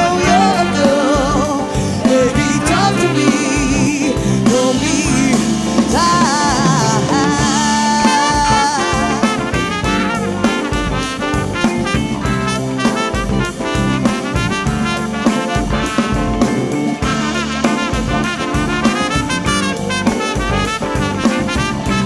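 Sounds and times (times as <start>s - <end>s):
drum kit beat: 0.0s - 22.0s
trumpet playing: 0.0s - 22.0s.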